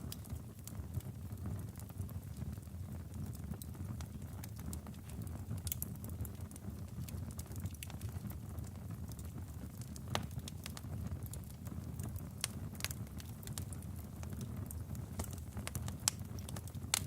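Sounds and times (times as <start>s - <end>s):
low rumble of flames: 0.0s - 17.0s
wood logs crackling and popping: 0.0s - 17.0s.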